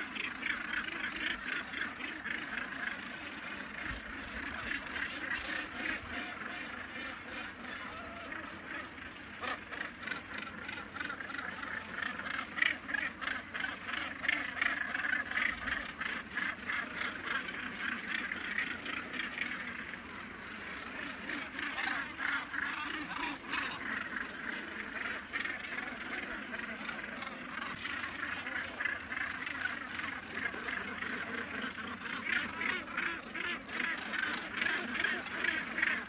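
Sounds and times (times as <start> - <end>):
gannets calling: 0.0 - 36.0.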